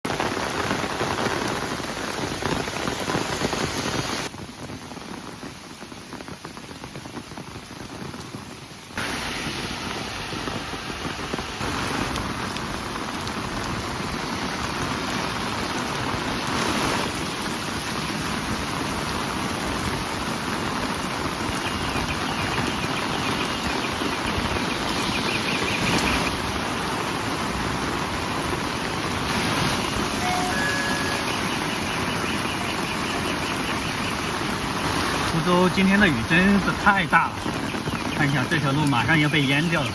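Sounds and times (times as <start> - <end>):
heavy rain on ground: 0.0 - 39.9.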